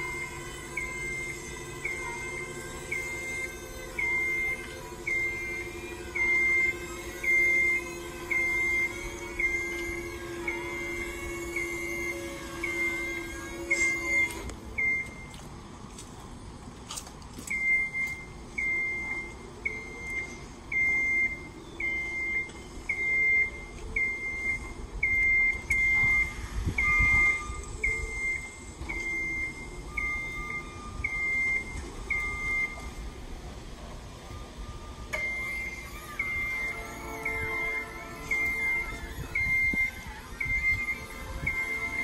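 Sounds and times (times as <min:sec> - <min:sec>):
lift motion alarm beeping: 0:00.0 - 0:15.5, 0:17.4 - 0:33.3, 0:34.1 - 0:42.0.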